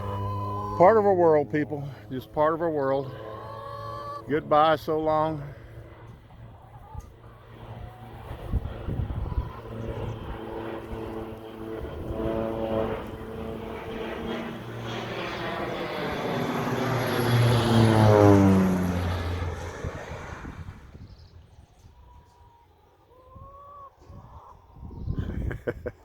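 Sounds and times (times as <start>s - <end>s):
airplane engine and propeller: 0.0s - 22.9s.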